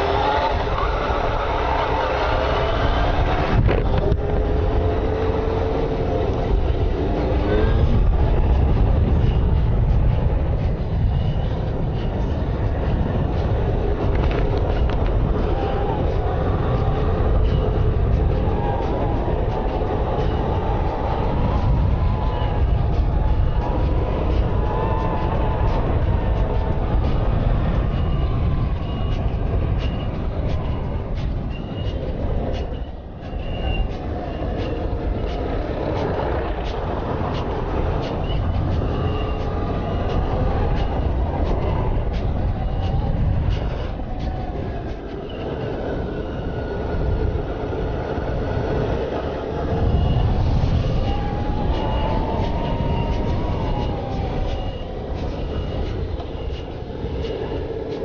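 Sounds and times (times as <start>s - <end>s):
wind rush on microphone: 0.0s - 58.0s.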